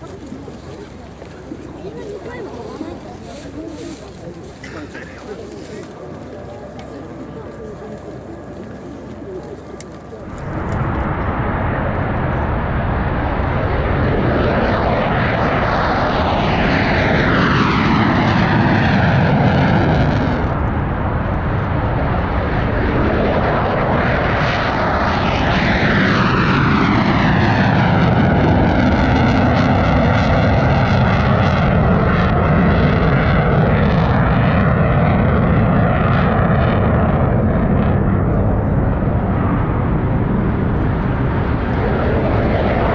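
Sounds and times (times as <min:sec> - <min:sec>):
jet engine roar and whine: 0:00.0 - 0:42.9.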